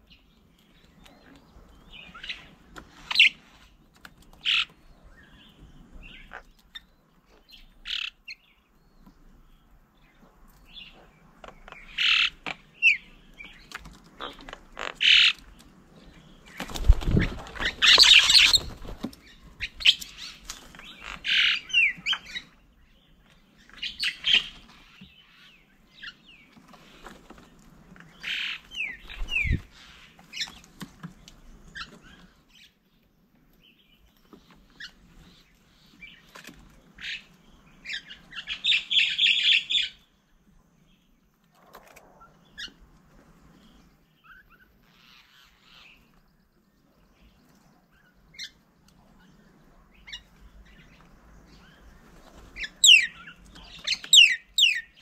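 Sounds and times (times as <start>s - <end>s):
birds chirping and squawking: 0.0s - 8.9s, 10.1s - 32.8s, 34.3s - 40.2s, 41.5s - 55.0s.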